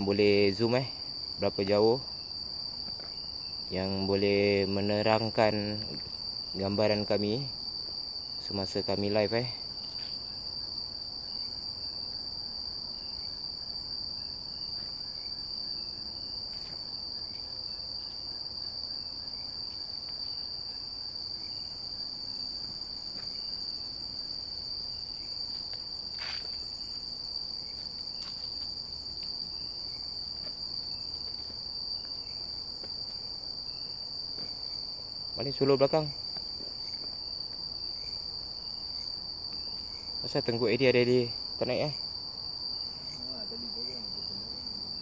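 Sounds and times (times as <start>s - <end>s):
night insects shrill drone: 0.0s - 45.0s.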